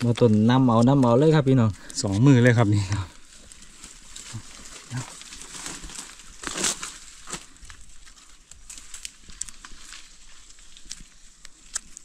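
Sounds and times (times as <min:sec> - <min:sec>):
dry leaves rustling: 0:02.0 - 0:12.0.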